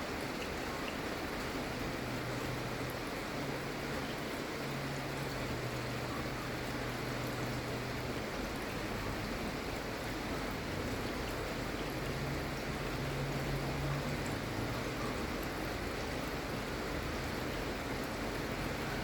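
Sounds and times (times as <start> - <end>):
gentle rain hiss: 0.0 - 19.0.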